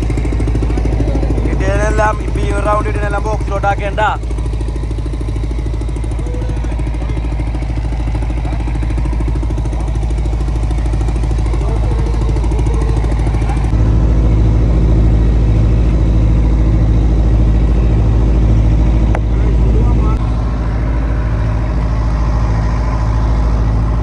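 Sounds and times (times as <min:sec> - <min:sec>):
boat engine throbbing: 0:00.0 - 0:24.0.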